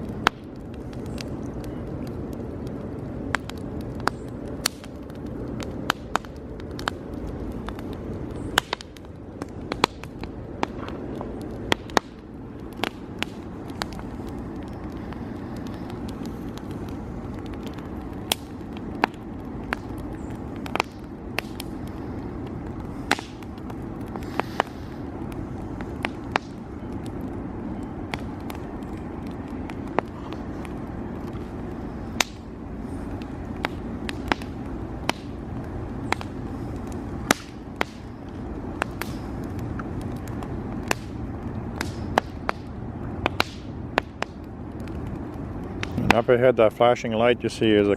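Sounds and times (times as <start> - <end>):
campfire crackling: 0.0 - 47.9
low rushing background: 0.0 - 47.9.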